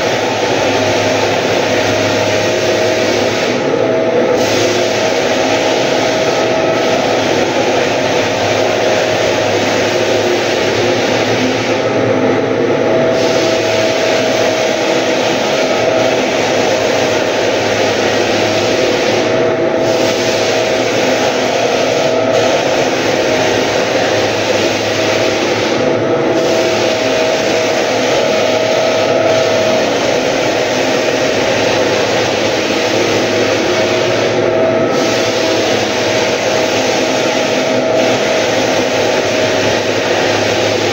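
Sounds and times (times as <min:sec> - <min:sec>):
floor sander motor whine: 0:00.0 - 0:40.9
sanding drum grinding on wood: 0:04.4 - 0:11.9, 0:13.1 - 0:40.9.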